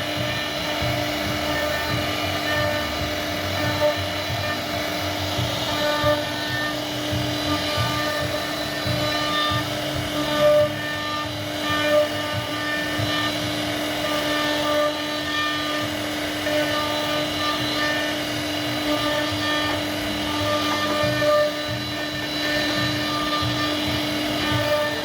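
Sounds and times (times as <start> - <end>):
bit grinding through wood: 0.0 - 25.0
cnc router spindle running: 0.0 - 25.0.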